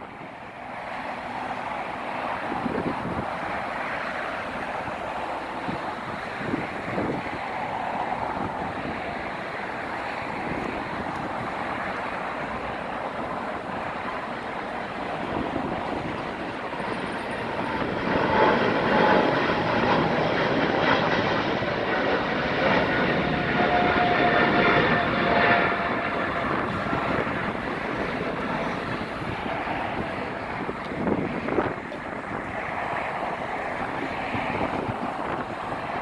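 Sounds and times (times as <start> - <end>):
faint engine whine: 0.0 - 36.0
jet engines rushing: 0.0 - 36.0.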